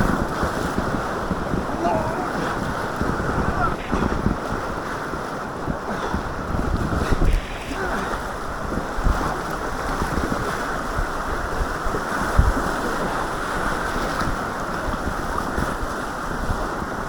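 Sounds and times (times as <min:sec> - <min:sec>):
whitewater rushing: 0:00.0 - 0:14.9
wind buffeting microphone: 0:00.0 - 0:17.0.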